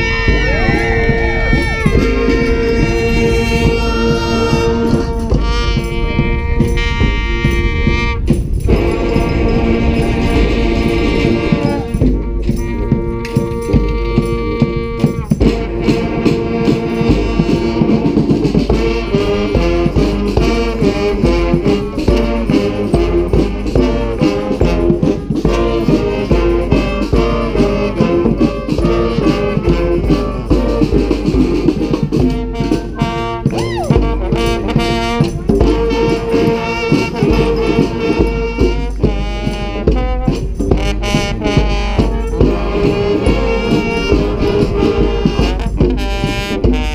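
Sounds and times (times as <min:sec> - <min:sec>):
brass band playing: 0:00.0 - 0:46.9
snare and hand drum beat: 0:00.0 - 0:46.9.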